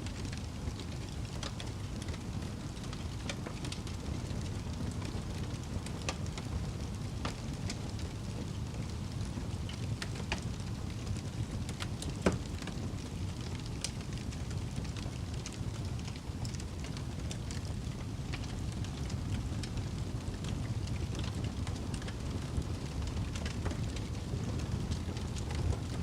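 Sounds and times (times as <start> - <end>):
wood fire rumbling: 0.0 - 26.0
fire popping and snapping: 0.1 - 26.0.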